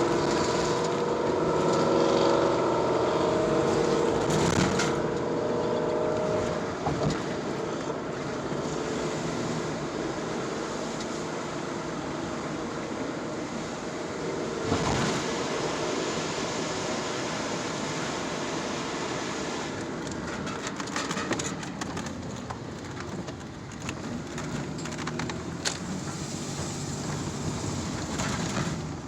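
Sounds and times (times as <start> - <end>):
car engine rumbling: 0.0 - 29.0.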